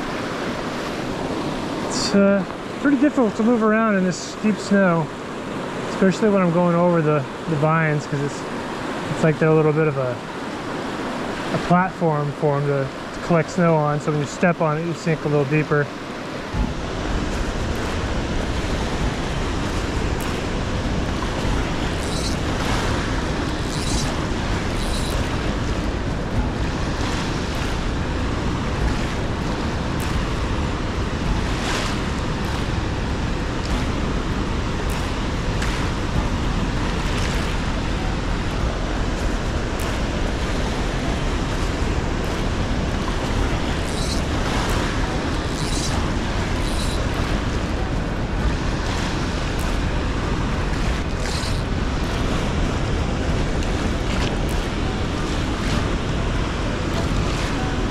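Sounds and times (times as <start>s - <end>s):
river rushing over rocks: 0.0s - 57.9s
water splashes: 0.0s - 57.9s.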